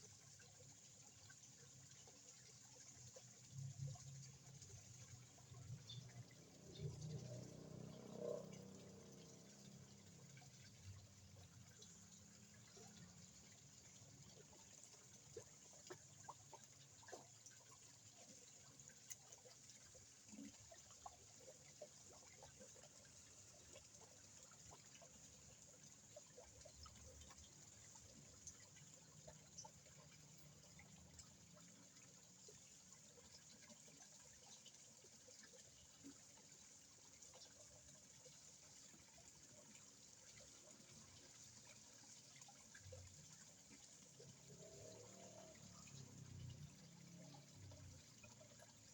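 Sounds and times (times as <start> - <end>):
faint ticks and splashes: 0.0 - 48.9
water trickling in pond: 0.0 - 48.9.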